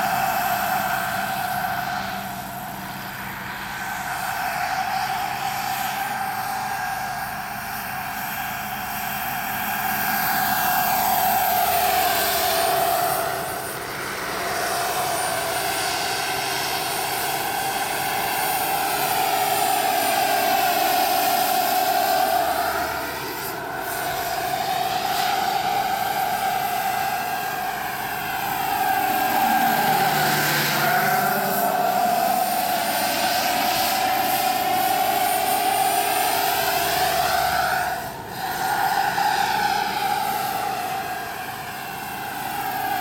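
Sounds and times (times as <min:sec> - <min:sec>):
model helicopter turbine whine: 0:00.0 - 0:43.0.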